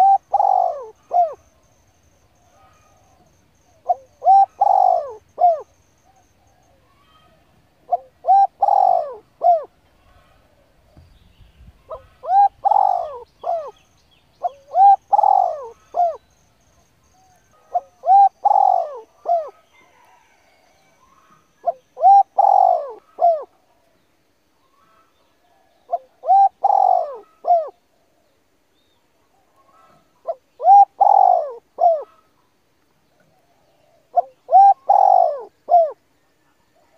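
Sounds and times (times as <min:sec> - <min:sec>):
bird calling: 0:00.0 - 0:01.5, 0:02.4 - 0:20.3, 0:21.0 - 0:23.6, 0:24.6 - 0:28.9, 0:29.6 - 0:32.5, 0:33.2 - 0:36.0.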